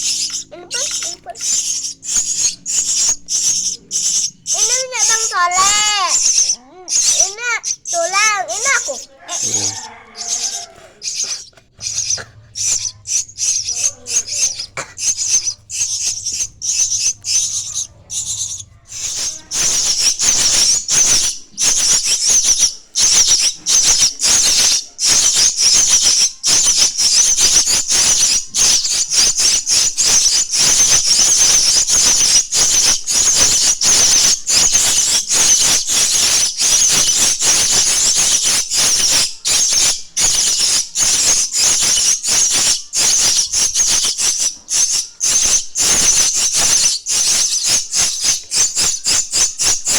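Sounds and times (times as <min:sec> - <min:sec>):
chicks rasping begging calls: 0:00.0 - 0:49.9.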